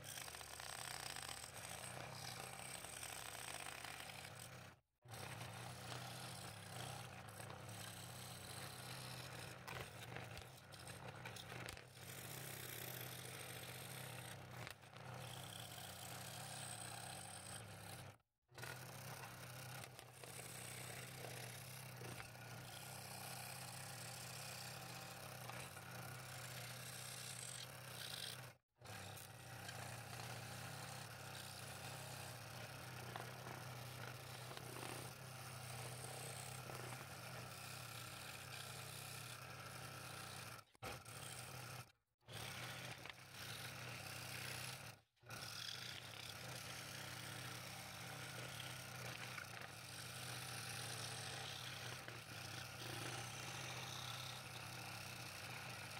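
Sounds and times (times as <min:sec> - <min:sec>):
saw blade rasping in wood: 0:00.0 - 0:55.9
scroll saw motor hum: 0:00.0 - 0:55.9.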